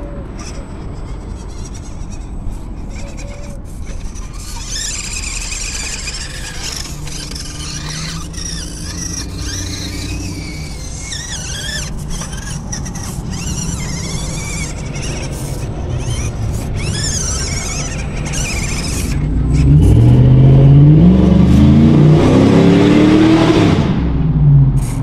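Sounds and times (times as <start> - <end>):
small electric motor whining: 0.0 - 20.3
low steady rumble: 0.0 - 22.2, 23.8 - 25.0.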